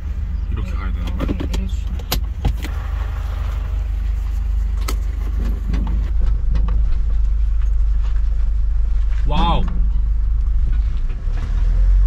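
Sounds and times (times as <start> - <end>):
van engine running: 0.0 - 12.0.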